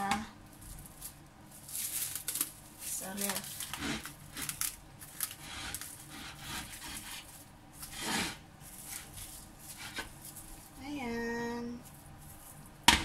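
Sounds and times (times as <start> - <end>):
plastic cling wrap crinkling: 0.4 - 8.0, 8.6 - 10.9, 11.7 - 12.9.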